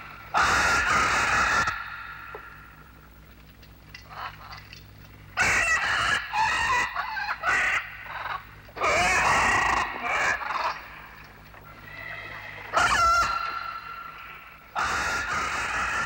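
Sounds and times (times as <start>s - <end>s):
faint low pulsing hum: 0.0s - 0.4s, 1.0s - 14.8s
loud animal calls: 0.0s - 2.9s, 5.4s - 16.0s.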